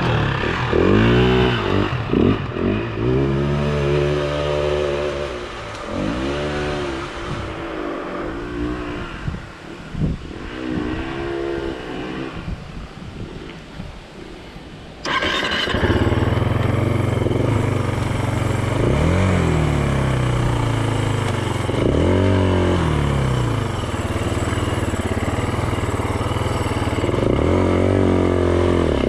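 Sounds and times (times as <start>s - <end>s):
vehicle engine revving: 0.0s - 12.6s, 15.0s - 29.0s.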